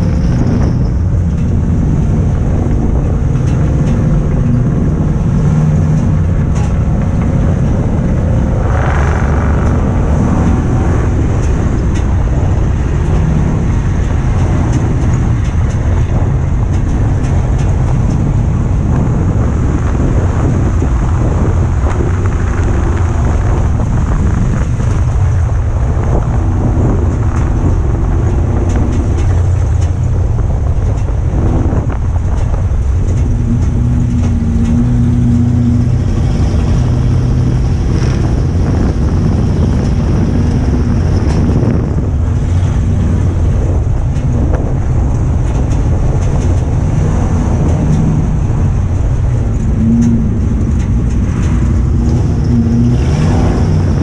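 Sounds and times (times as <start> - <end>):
race car engine rumble: 0.0 - 54.0
wind noise: 0.0 - 54.0.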